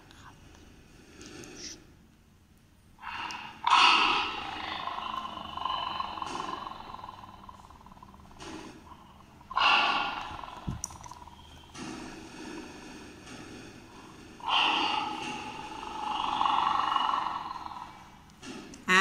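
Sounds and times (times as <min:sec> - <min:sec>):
recorded lion roaring through phone speaker: 0:03.0 - 0:19.0.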